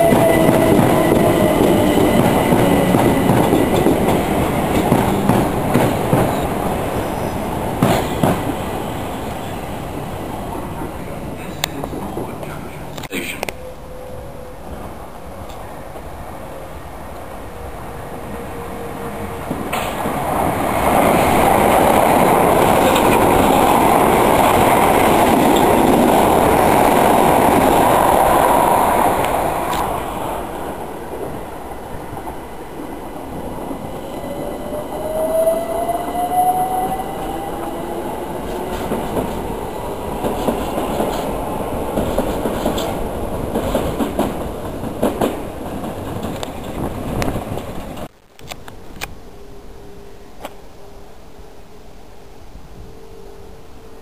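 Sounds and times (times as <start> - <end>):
train wheels rumbling on rails: 0.0 - 13.1, 17.0 - 48.2.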